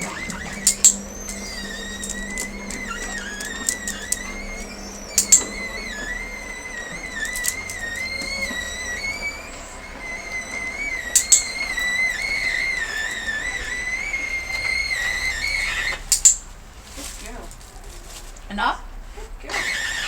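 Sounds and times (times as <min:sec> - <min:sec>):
sharp clicks: 0:00.0 - 0:16.5
shutter motor whine: 0:00.0 - 0:16.8, 0:19.5 - 0:20.0
steady low hum: 0:00.0 - 0:18.0.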